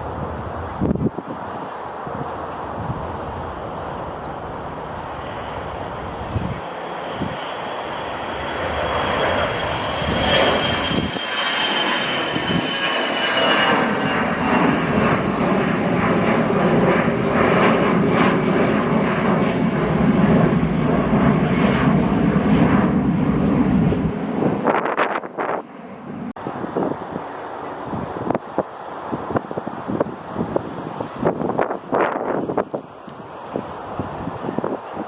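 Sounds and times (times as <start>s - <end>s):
airliner engines passing: 0.0s - 35.0s.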